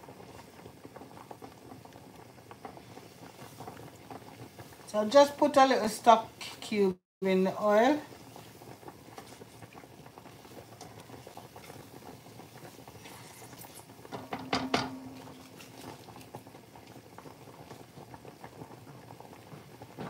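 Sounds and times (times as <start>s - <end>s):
oil sizzling in a pot: 0.0s - 20.0s.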